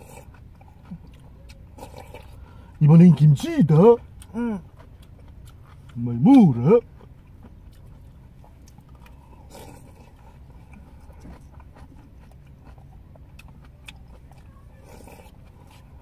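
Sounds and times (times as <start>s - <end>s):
soft chewing: 0.0s - 16.0s
steady low hum: 0.0s - 16.0s.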